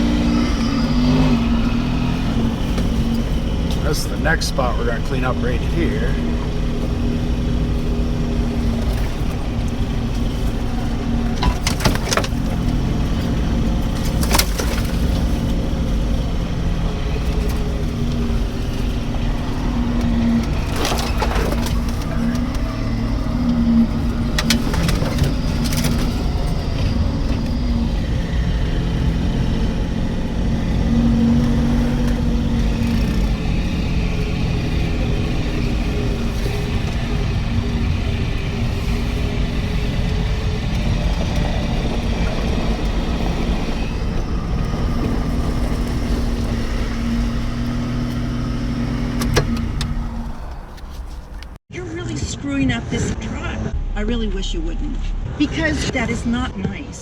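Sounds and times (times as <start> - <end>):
pickup truck engine running: 0.0 - 51.6.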